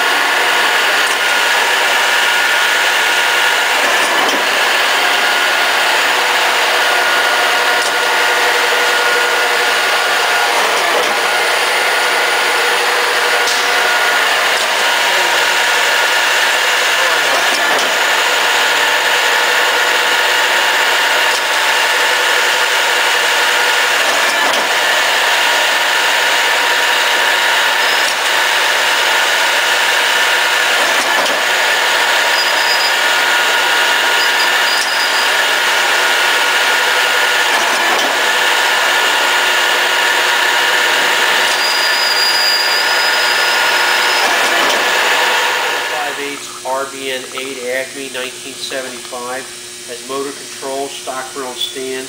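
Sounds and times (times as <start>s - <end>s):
screw machine whirring: 0.0s - 46.4s.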